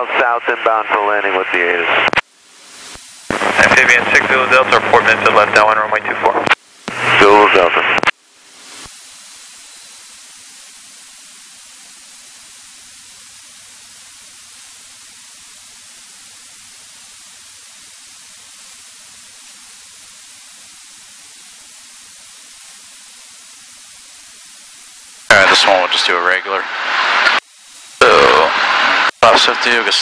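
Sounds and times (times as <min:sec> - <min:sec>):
intercom radio hiss: 0:00.0 - 0:30.0.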